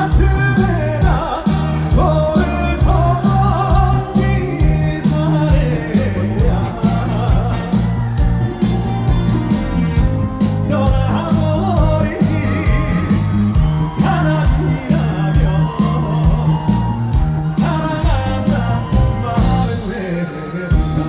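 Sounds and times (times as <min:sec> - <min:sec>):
man singing: 0:00.0 - 0:21.0
upbeat band with steady bass: 0:00.0 - 0:21.0.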